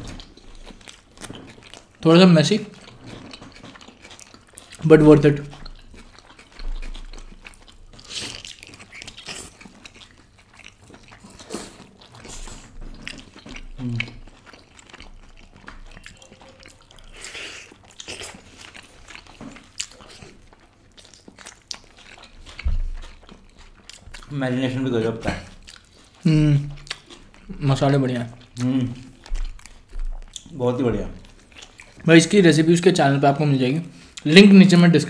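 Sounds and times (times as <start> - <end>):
chewing and lip smacking: 0.0 - 32.8.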